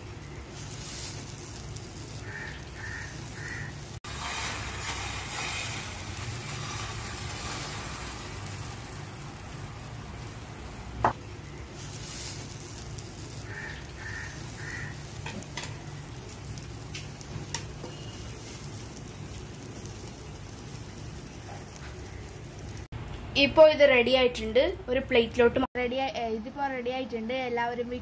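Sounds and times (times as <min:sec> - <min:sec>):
omelette sizzling in frying pan: 0:00.0 - 0:22.9.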